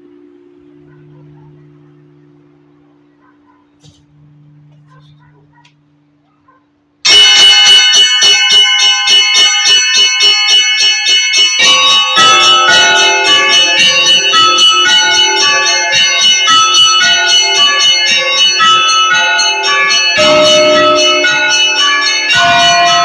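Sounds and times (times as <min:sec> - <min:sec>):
deep church bells: 0:00.0 - 0:05.6, 0:06.5 - 0:23.0
small church bells ringing rapidly: 0:00.0 - 0:05.6, 0:06.5 - 0:23.0.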